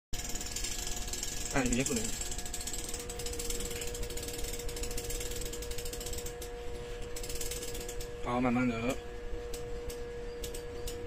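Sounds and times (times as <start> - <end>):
faint steady hum: 0.2 - 11.0
ratchet pawl clicking: 0.2 - 11.0.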